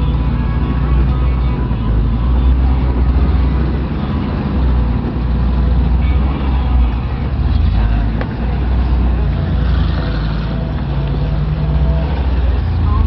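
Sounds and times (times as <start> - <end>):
vehicle engine running under load: 0.0 - 13.0.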